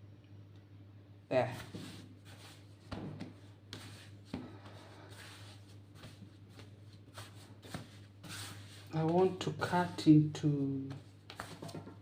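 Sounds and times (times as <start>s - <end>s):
steady low hum: 0.0s - 12.0s
hands kneading dough: 1.4s - 12.0s.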